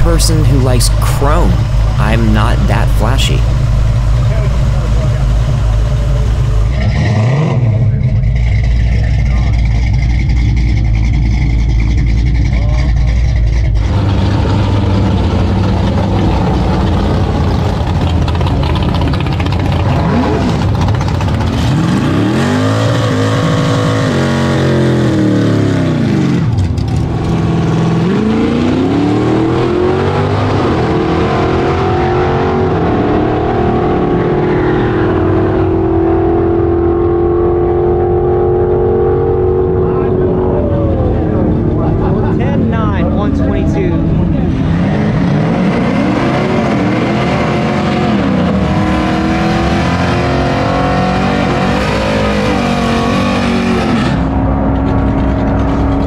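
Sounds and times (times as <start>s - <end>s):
car engine revving: 3.4s - 56.0s.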